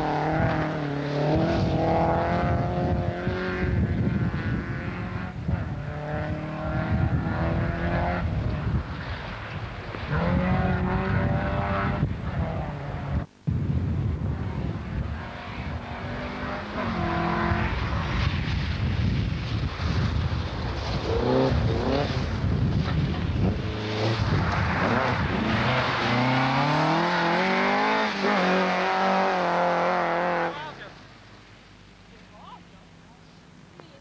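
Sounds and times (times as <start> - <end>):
rally car engine revving: 0.0 - 13.3, 14.3 - 30.9.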